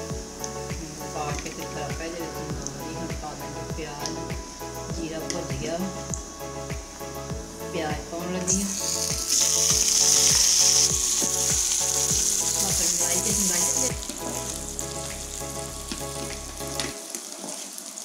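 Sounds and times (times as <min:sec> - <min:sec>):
onions sizzling in hot oil: 0:00.2 - 0:05.4, 0:08.5 - 0:18.0.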